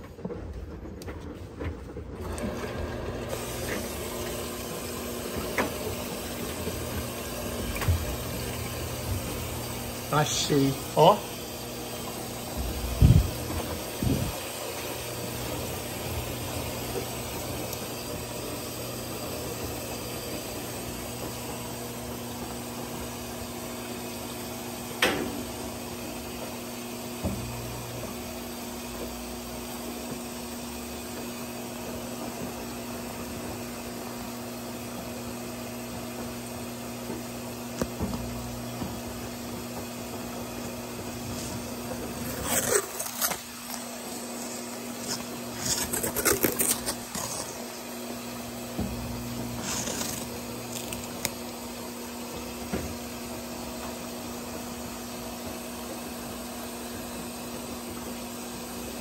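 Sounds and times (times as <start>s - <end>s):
washing machine humming: 0.0s - 59.0s.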